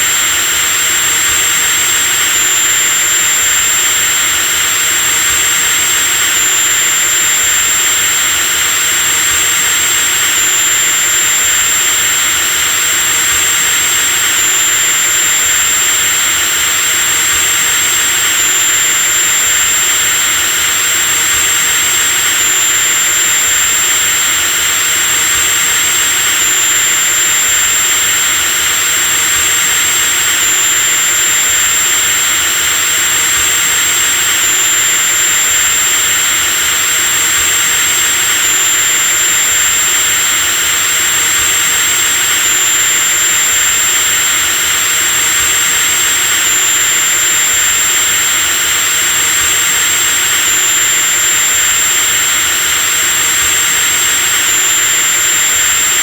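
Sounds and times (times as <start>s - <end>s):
electric drill motor whining: 0.0s - 56.0s.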